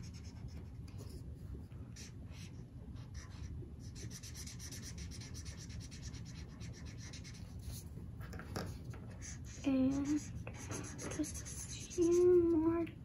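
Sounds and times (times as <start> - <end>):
marker scratching on paper: 0.0 - 1.2, 2.0 - 7.9, 8.7 - 12.8.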